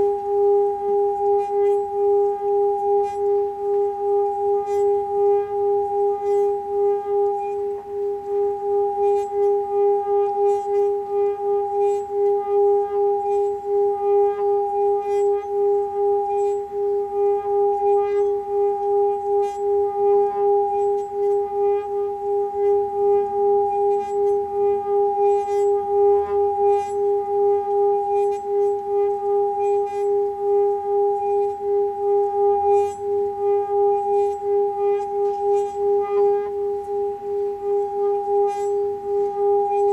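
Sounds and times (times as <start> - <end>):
singing bowl sustained tone: 0.0 - 39.9.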